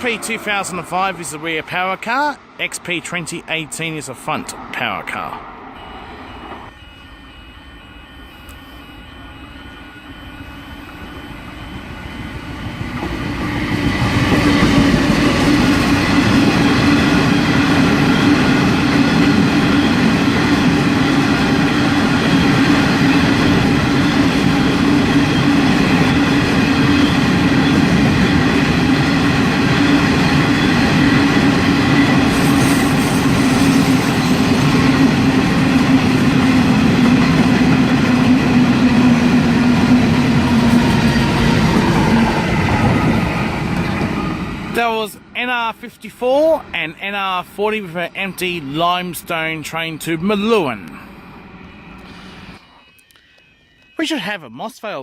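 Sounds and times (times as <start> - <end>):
diesel locomotives passing: 0.0 - 54.0.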